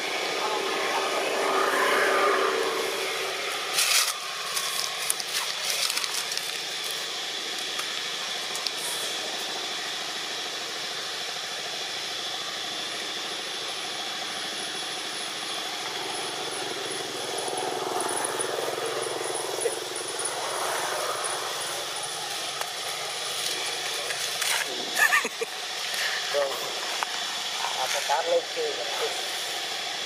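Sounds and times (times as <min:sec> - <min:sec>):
distant motor running: 0:00.0 - 0:30.0.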